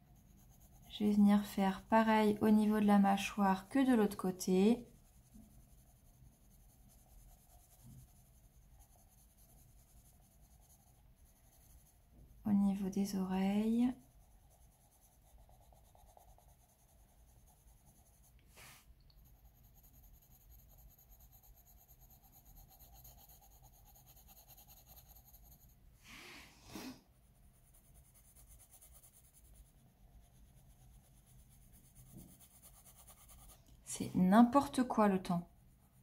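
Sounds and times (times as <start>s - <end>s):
pencil scratching on paper: 0.0s - 25.8s, 27.3s - 36.0s.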